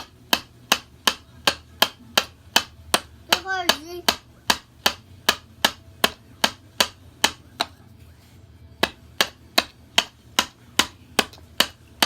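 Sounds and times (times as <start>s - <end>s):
hammer striking nails: 0.0s - 7.7s, 8.8s - 11.8s.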